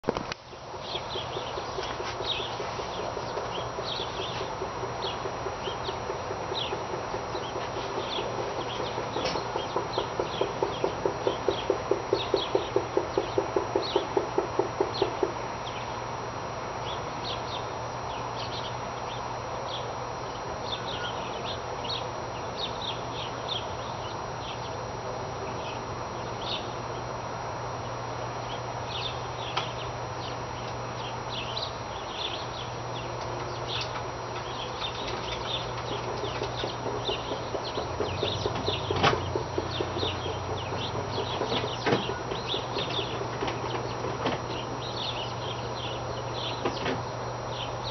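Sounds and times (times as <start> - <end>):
small birds chirping: 0.3 - 47.9.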